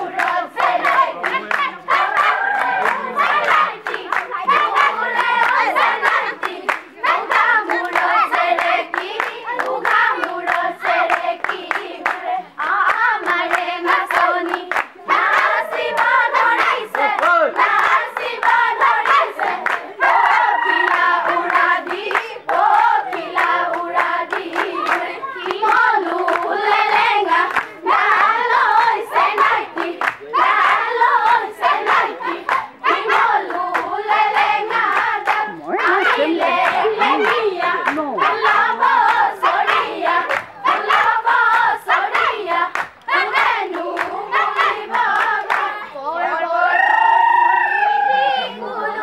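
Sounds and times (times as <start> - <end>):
women singing in chorus: 0.0 - 49.0
hand clapping: 0.1 - 12.2, 12.8 - 45.7.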